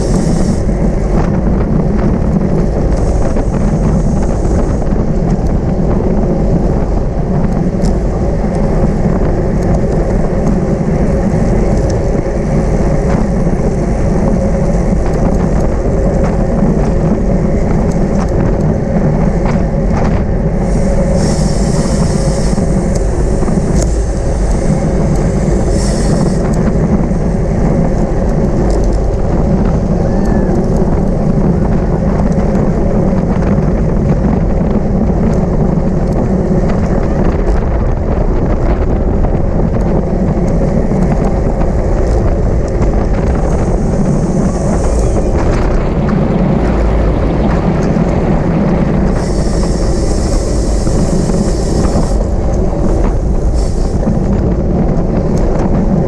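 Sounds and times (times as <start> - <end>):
steady hum: 0.0 - 56.0
wind rush on microphone: 0.0 - 56.0.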